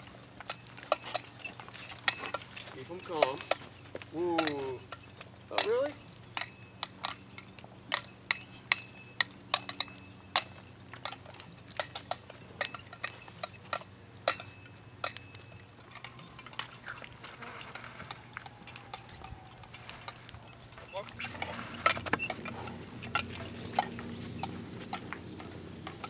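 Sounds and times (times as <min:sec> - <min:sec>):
metal horse tack jingling: 0:00.0 - 0:26.0.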